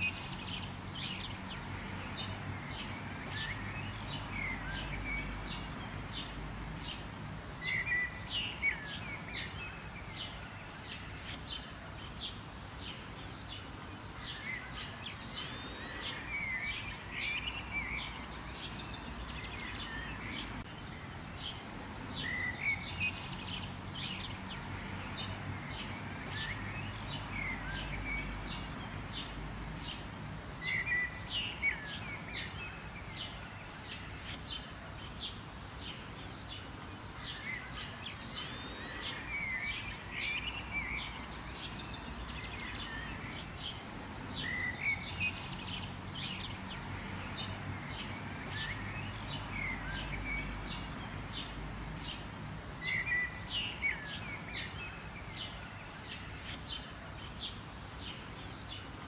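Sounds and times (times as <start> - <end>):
outdoor ambience: 0.0 - 59.0
wild birds chirping: 0.0 - 59.0.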